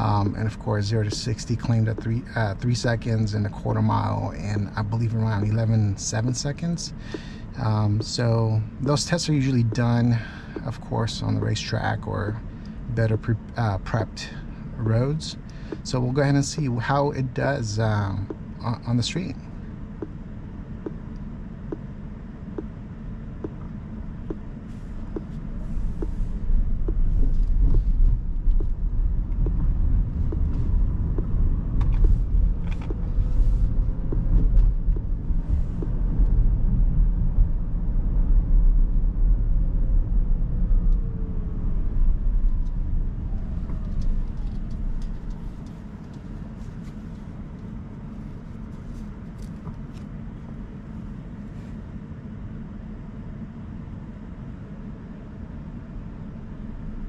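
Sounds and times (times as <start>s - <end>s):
road and tyre rumble in car: 0.0s - 57.0s.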